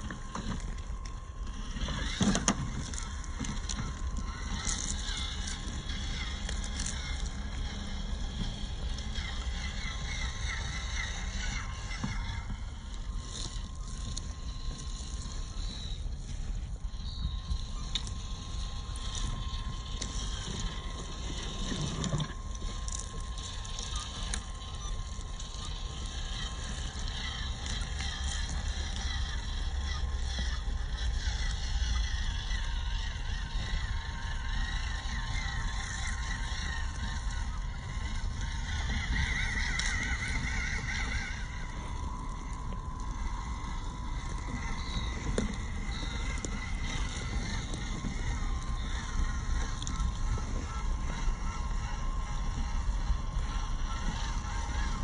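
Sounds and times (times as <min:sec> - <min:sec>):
electric motor whine: 0:00.0 - 0:55.0
leaves crunching under tyres: 0:00.0 - 0:55.0
wind rumble on microphone: 0:00.0 - 0:55.0.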